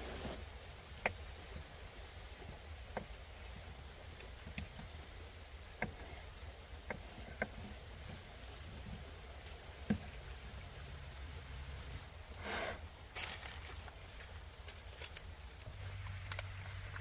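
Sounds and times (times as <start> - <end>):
road traffic rumble: 1.1 - 17.0.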